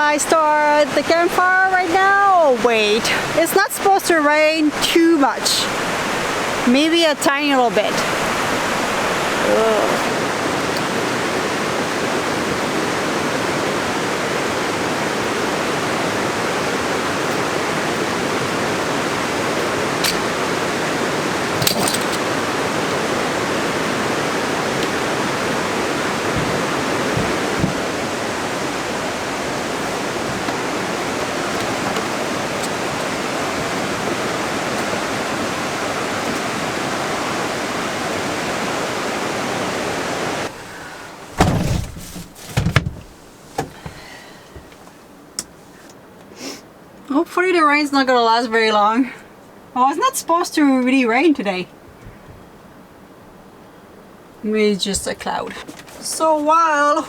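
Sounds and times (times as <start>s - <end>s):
steady rain falling: 0.0s - 52.0s, 52.6s - 57.0s.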